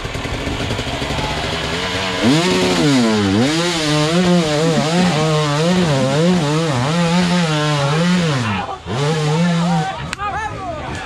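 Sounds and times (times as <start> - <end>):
dirt bike engine revving: 0.0 - 10.1.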